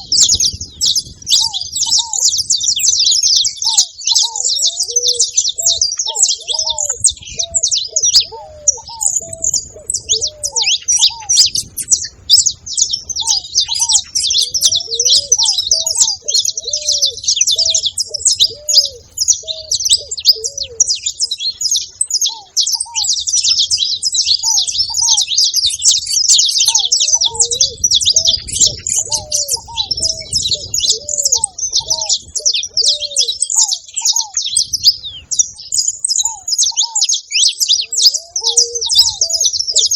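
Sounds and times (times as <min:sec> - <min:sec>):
finch chirps and trills: 0:00.0 - 0:39.9
lower bird arched notes: 0:00.0 - 0:39.9.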